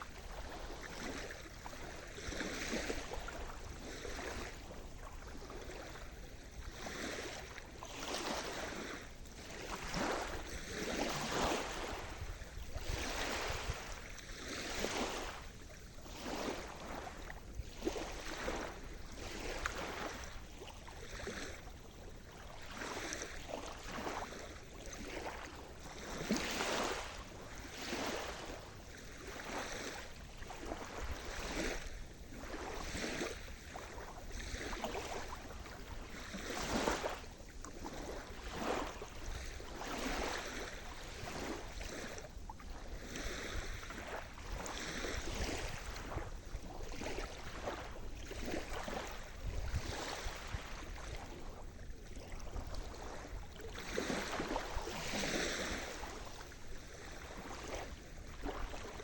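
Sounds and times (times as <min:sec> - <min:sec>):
small waves breaking: 0:00.0 - 0:59.0.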